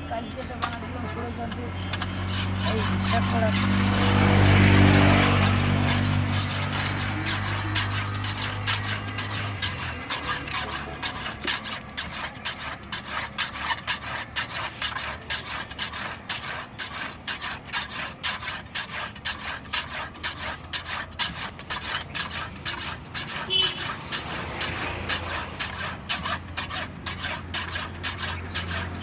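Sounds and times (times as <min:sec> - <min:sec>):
hand file rasping on steel: 0:00.2 - 0:29.0.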